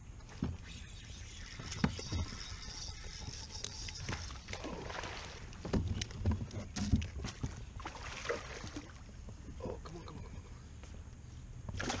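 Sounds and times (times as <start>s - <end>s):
light water noise: 0.0s - 12.0s.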